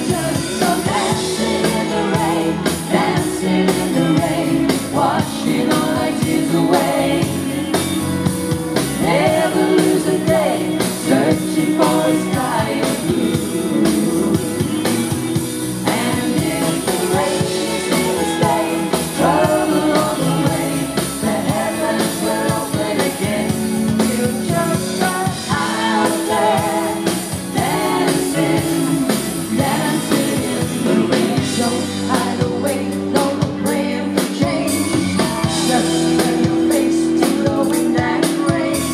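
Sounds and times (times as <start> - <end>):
person singing lead vocals: 0.0 - 8.2, 8.9 - 38.9
live band playing pop song: 0.0 - 38.9.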